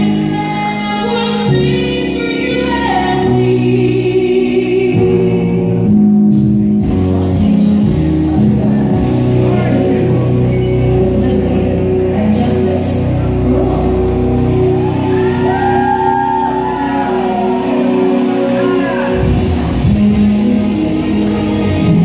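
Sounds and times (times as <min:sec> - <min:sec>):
music with singing voice: 0:00.0 - 0:22.0.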